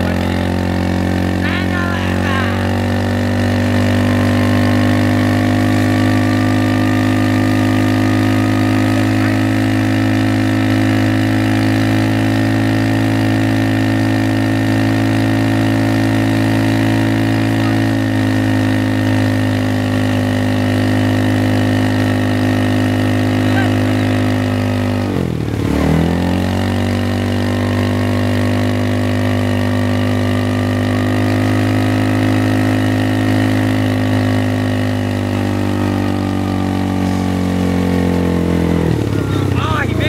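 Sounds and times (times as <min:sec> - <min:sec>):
motorbike engine running: 0:00.0 - 0:40.0.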